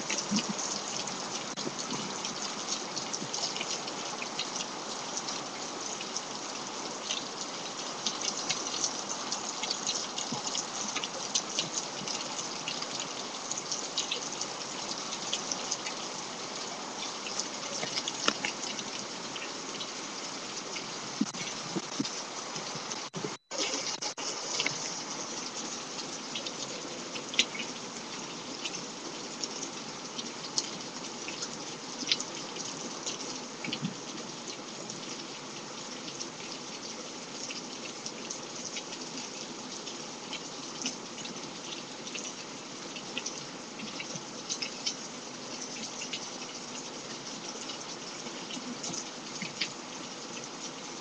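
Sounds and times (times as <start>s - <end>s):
heavy rain falling: 0.0s - 51.0s
raindrops tapping close by: 0.0s - 51.0s.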